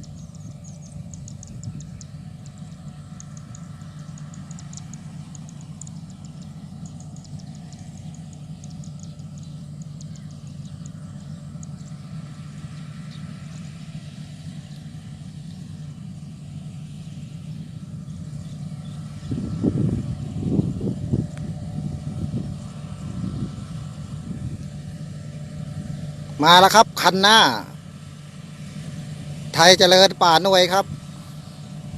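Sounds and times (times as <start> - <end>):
combine harvester engine drone: 0.0 - 31.9.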